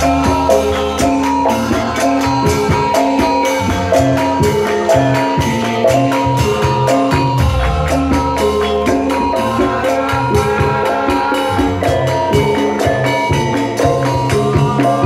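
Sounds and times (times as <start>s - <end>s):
gamelan ensemble playing: 0.0s - 15.0s
high percussion beat: 0.0s - 15.0s.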